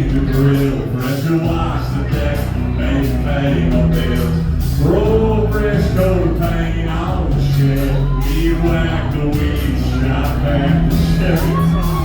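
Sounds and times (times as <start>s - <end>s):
instrumental backing music: 0.0s - 12.0s
man singing: 0.0s - 12.0s.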